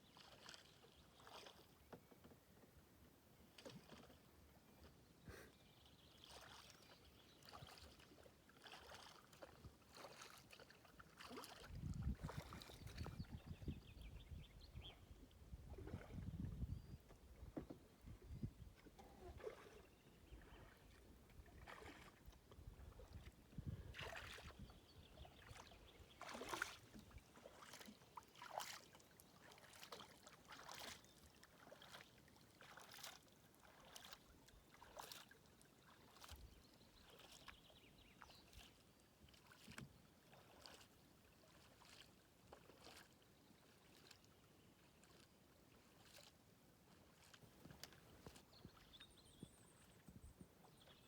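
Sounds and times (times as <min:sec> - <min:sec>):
paddle strokes splashing water: 0:00.0 - 0:02.5, 0:03.4 - 0:51.0.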